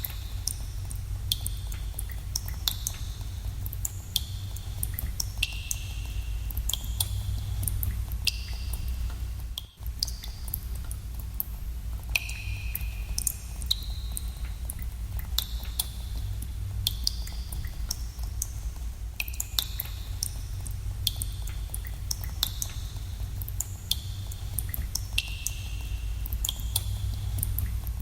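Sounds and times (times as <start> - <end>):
water drops plinking in a cave: 0.0 - 28.0.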